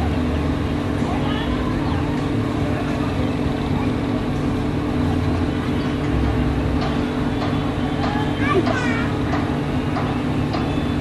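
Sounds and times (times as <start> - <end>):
carousel machinery drone: 0.0 - 11.0
constant low hum: 0.0 - 11.0.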